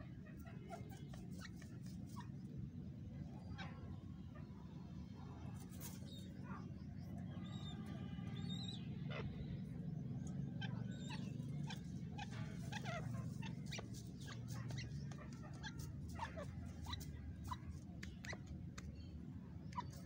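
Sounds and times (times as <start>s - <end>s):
bird chirps and twitters: 0.0s - 20.0s
steady low rumble: 1.6s - 20.0s.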